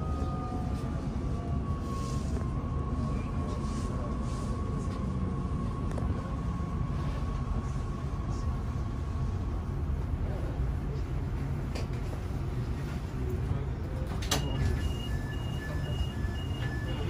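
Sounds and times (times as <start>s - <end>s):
train cabin rumble: 0.0s - 17.0s.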